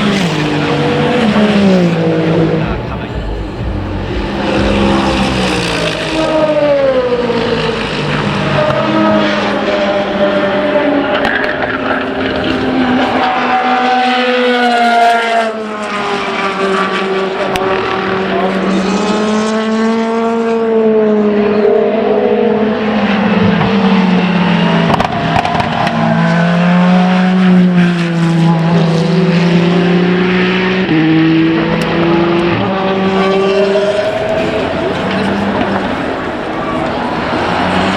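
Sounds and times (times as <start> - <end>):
race car engines passing: 0.0 - 37.9.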